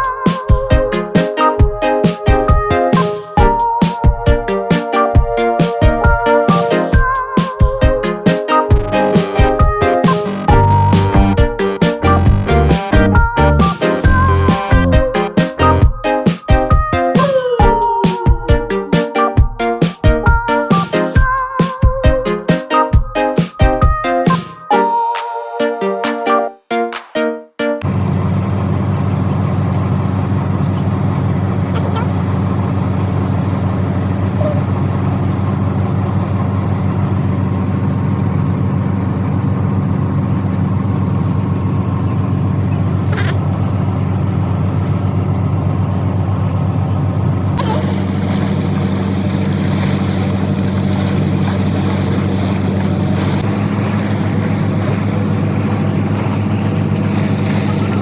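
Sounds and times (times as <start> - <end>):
boat engine droning: 0.0 - 21.4, 27.8 - 58.0.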